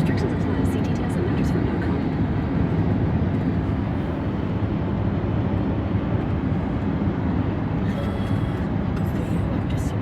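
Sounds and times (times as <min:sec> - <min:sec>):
car cabin road and engine rumble: 0:00.0 - 0:10.0.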